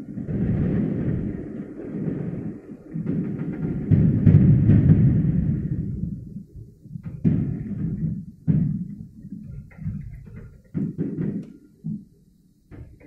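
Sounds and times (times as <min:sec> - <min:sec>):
firework shells bursting with booms: 0:00.0 - 0:13.0.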